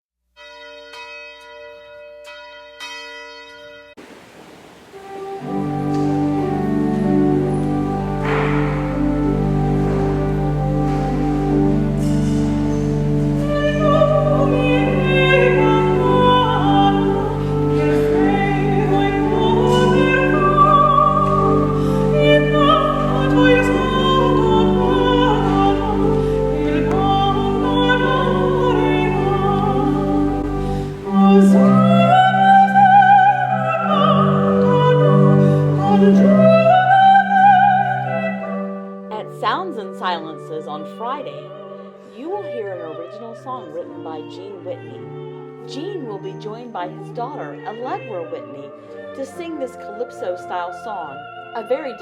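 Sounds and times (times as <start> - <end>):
instrumental accompaniment: 4.4 - 52.0
soprano singing opera: 5.0 - 52.0.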